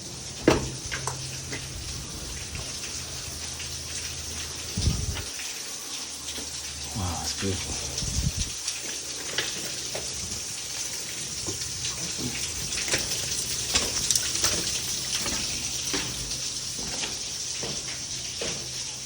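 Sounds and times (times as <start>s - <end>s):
water drips and splashes: 0.0s - 19.0s.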